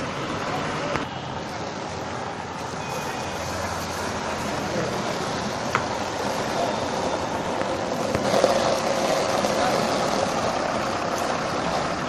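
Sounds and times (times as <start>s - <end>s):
outdoor vehicle noise: 0.0s - 12.0s.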